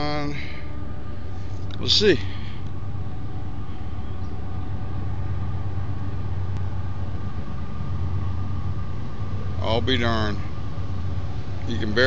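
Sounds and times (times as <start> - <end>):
faint hum: 0.0 - 12.0
steady low rumble: 0.0 - 12.0.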